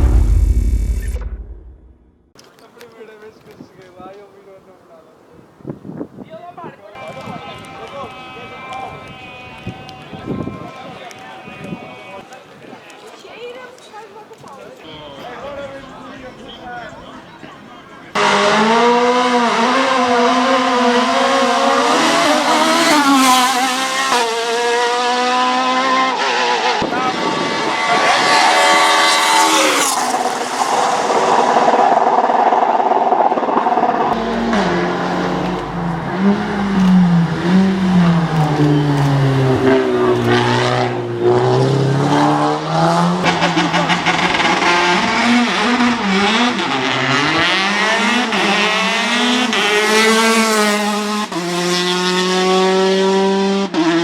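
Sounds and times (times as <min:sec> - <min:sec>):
race car engines revving: 0:07.0 - 0:12.3, 0:14.9 - 0:54.0.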